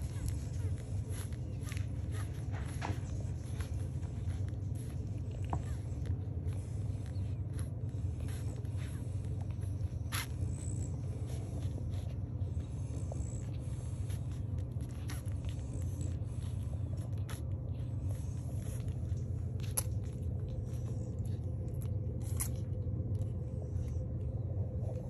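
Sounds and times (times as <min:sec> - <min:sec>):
low hum: 0:00.0 - 0:25.0
puppies suckling: 0:00.0 - 0:25.0.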